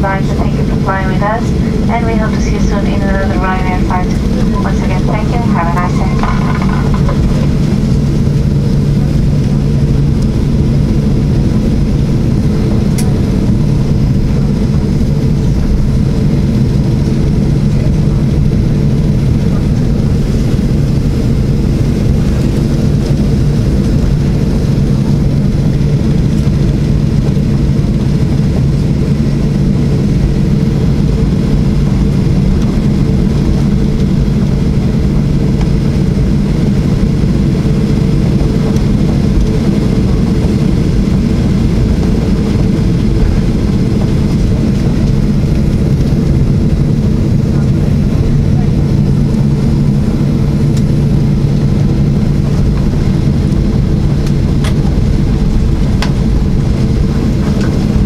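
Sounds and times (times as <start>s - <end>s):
airplane cabin engine hum: 0.0s - 58.0s.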